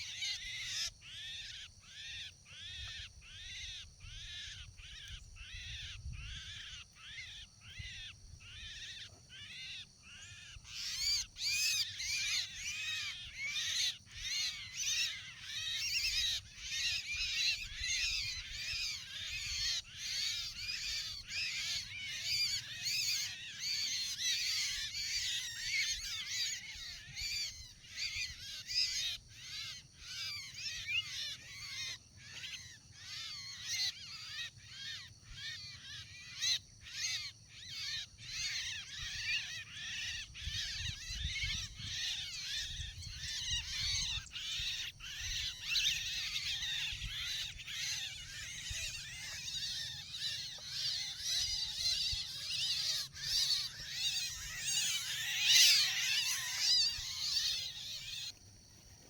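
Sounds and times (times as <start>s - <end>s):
flock of birds chattering: 0.0s - 59.0s.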